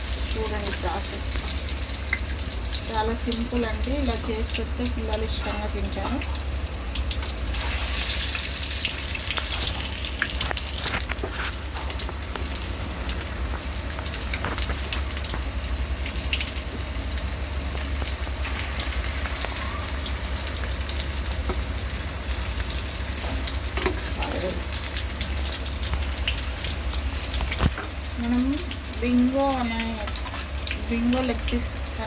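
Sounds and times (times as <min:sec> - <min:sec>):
oil crackles and pops: 0:00.0 - 0:31.9
chicken deep-frying in oil: 0:00.0 - 0:32.0.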